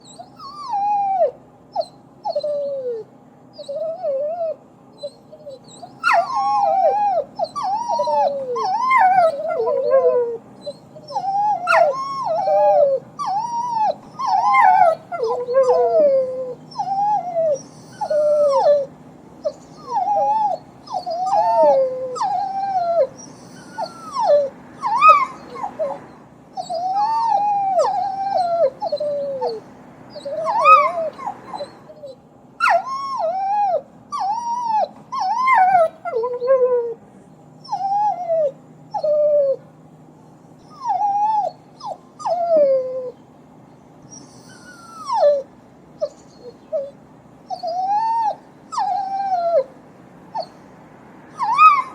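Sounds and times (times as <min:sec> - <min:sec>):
dog whining and whimpering: 0:00.0 - 0:37.0, 0:37.6 - 0:39.6, 0:40.6 - 0:43.2, 0:44.1 - 0:51.9.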